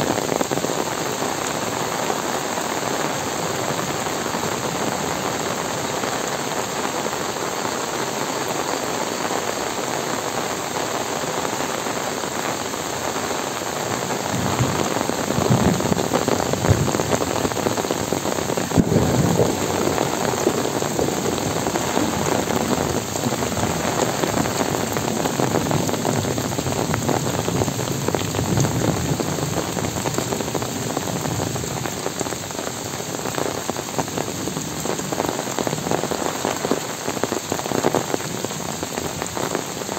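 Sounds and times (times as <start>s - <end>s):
heavy rain on trees: 0.0s - 39.9s.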